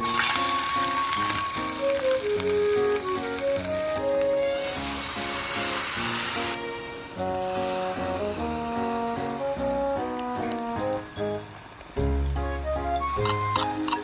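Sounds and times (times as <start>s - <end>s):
background music with melody: 0.0s - 14.0s
food sizzling in frying: 0.0s - 14.0s.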